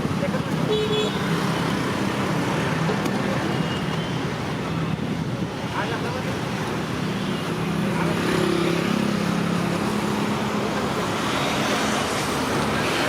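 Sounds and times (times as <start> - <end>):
roadside traffic noise: 0.0 - 13.0.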